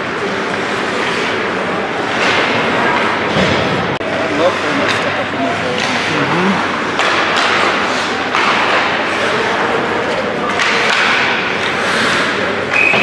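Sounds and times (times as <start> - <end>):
ice hockey play and crowd noise: 0.0 - 13.0.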